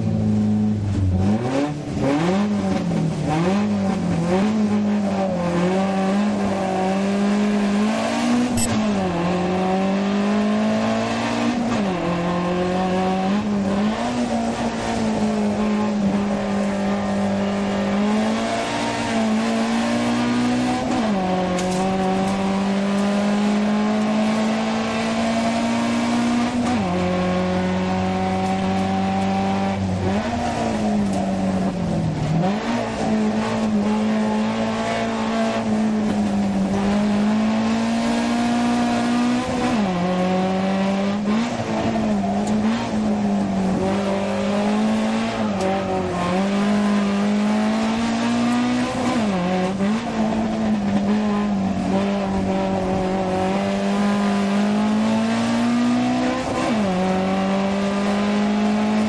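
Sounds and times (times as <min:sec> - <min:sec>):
car engine at full throttle: 0:00.0 - 0:59.0.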